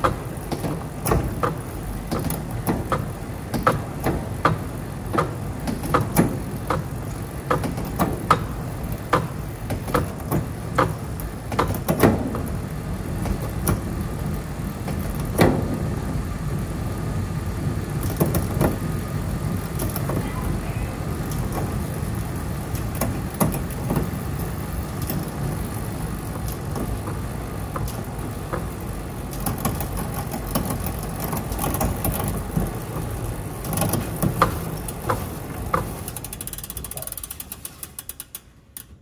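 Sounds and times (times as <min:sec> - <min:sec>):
wheel rolling rumble: 0:00.0 - 0:38.3
rear hub ticking: 0:00.0 - 0:39.0.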